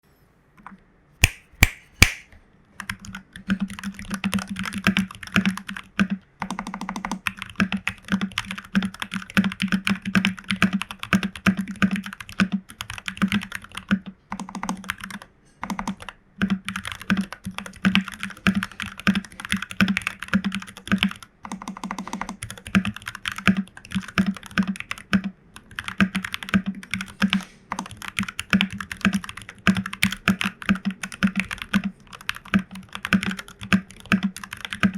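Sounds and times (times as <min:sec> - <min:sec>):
mechanical keyboard typing: 0:02.8 - 0:34.9.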